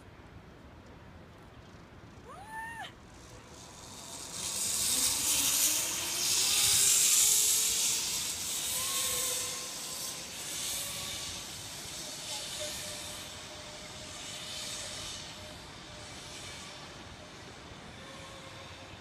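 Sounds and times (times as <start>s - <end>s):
faint rising whine: 1.2s - 19.0s
zip-line trolley hissing on cable: 1.7s - 19.0s.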